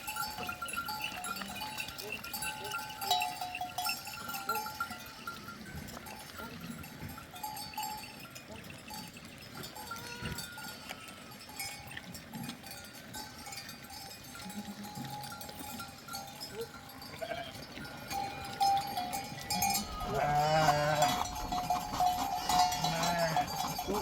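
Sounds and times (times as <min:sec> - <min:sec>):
sheep and goat bells ringing: 0:00.0 - 0:24.0.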